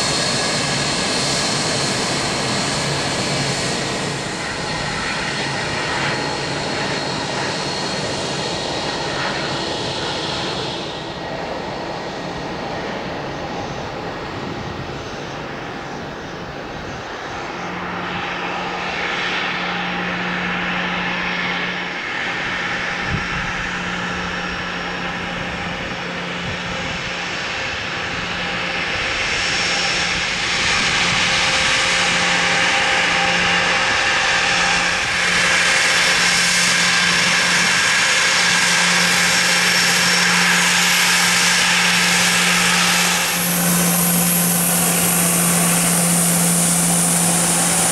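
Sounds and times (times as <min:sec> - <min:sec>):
jet engines whining: 0:00.0 - 0:47.9.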